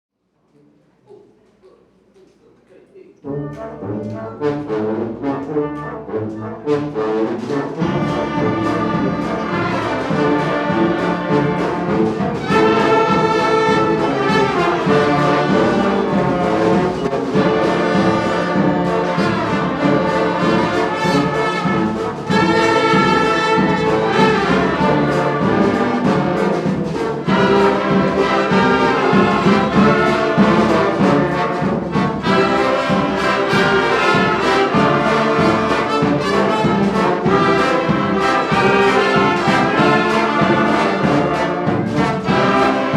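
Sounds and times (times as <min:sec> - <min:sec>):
student ensemble with brass: 0:00.5 - 0:42.9.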